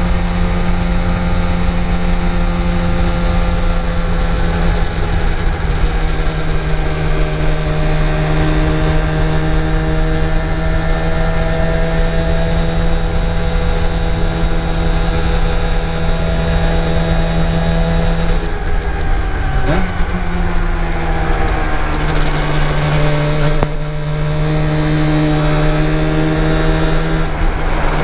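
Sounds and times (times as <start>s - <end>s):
motorcycle engine running: 0.0s - 28.0s
wind rumble on microphone: 0.0s - 28.0s.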